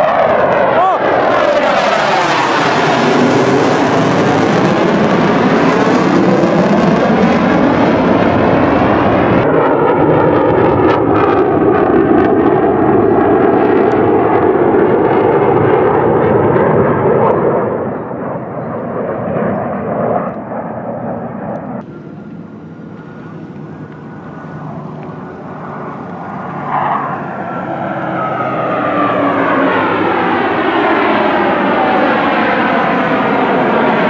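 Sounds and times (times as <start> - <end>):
jet aircraft passing overhead: 0.0 - 34.0.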